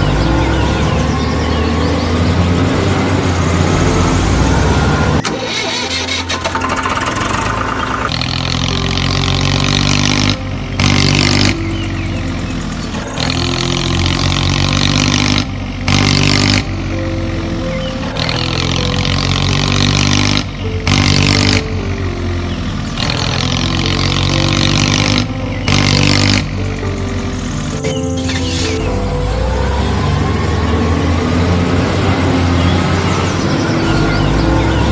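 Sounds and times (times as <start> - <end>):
cartoon vehicle engine: 0.0 - 34.9.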